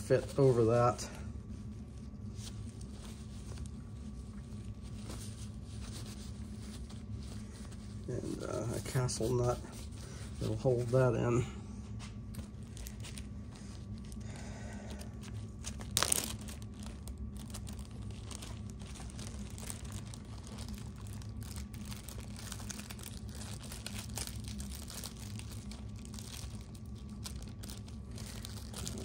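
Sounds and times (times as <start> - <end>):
crinkling and handling of covers: 0.0 - 29.0
low steady hum: 0.0 - 29.0.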